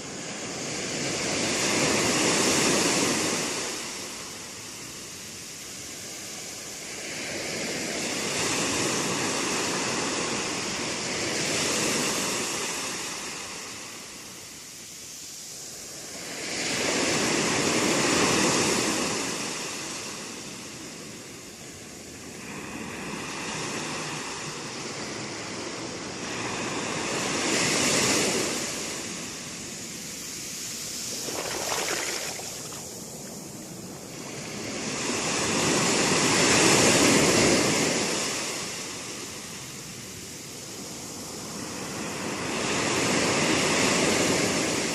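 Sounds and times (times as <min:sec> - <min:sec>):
waves breaking on shore: 0:00.0 - 0:44.9.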